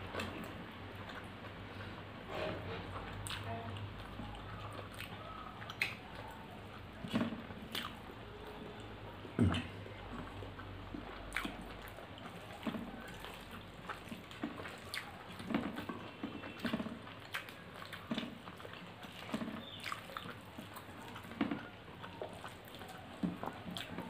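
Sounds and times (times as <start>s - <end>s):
wet chewing and lip smacking: 0.0s - 2.1s, 2.7s - 24.0s.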